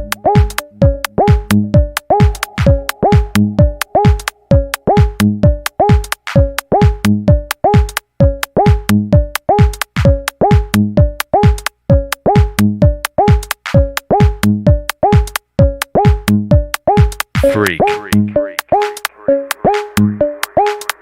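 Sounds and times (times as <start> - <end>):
techno drum machine beat: 0.0 - 21.0.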